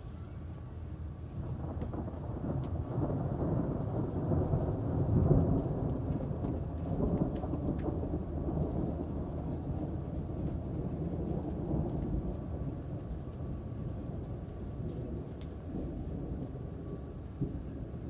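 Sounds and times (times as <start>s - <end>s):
steady rain: 0.0s - 18.0s
rolling thunder: 1.2s - 18.0s.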